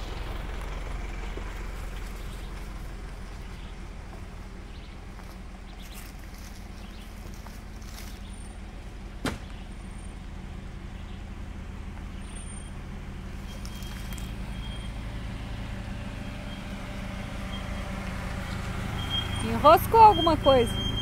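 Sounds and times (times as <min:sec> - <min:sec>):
suv engine running: 0:00.0 - 0:21.0.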